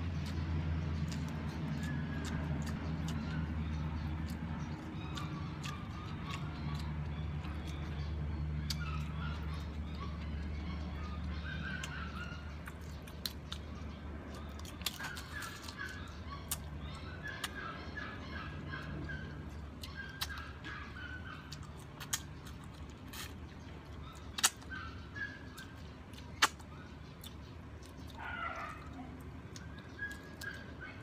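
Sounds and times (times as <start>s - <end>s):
person chewing food: 0.1s - 10.6s, 12.6s - 17.6s, 18.8s - 20.7s, 21.5s - 24.7s, 25.6s - 30.8s
bird chirping: 0.2s - 31.0s.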